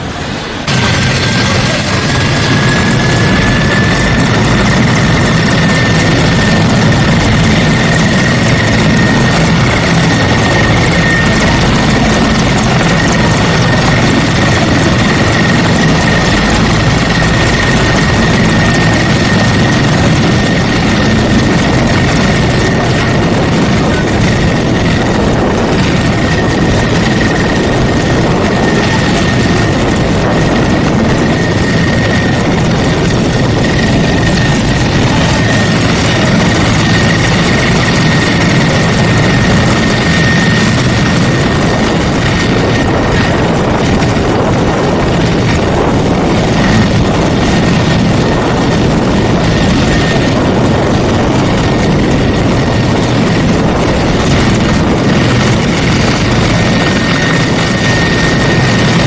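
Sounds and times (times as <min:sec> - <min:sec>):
helicopter rotor chop: 0:00.0 - 0:59.0
high steady whine: 0:00.0 - 0:59.0.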